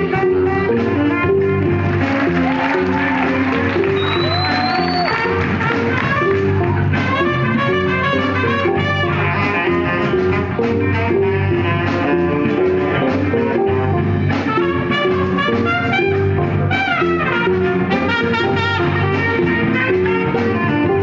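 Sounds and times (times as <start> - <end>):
funk jazz band playing: 0.0 - 21.0.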